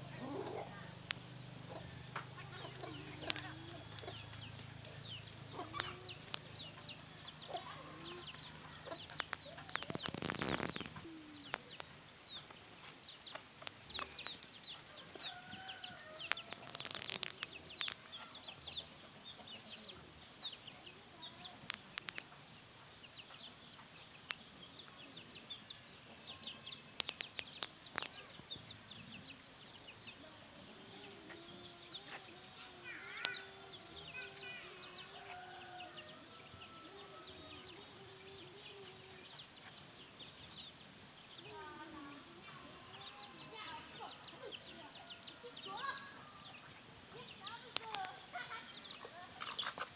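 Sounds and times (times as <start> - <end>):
chickens clucking: 0.0 - 49.9.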